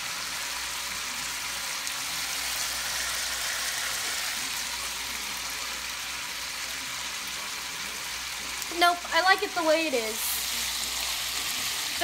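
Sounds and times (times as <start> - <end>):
pork sizzling in a pan: 0.0 - 12.0.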